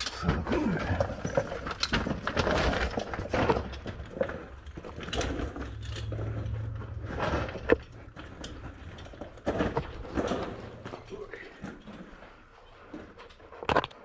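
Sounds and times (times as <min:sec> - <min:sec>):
loose stones crunching and clattering: 0:00.0 - 0:14.0
low steady hum: 0:00.2 - 0:13.4.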